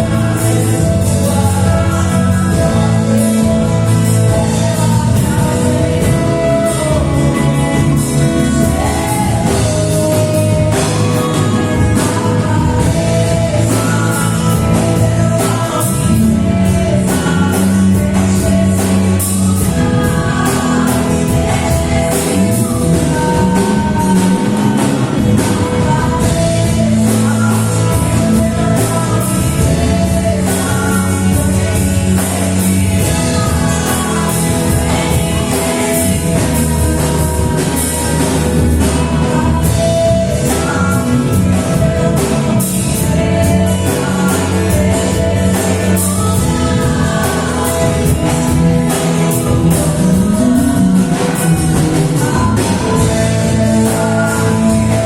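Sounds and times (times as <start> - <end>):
gospel singing with band: 0.0 - 55.0.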